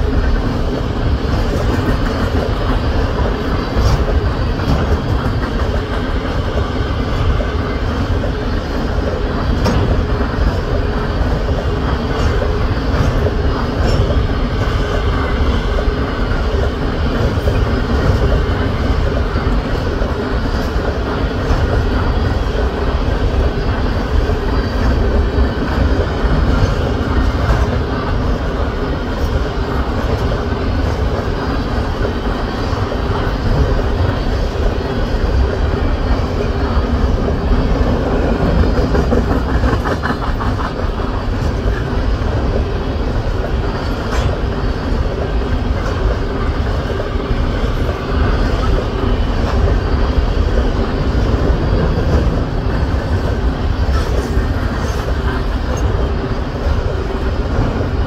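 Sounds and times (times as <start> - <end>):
train wheels rumbling on rail: 0.0 - 58.0
wheels clacking over rail joints: 0.0 - 58.0.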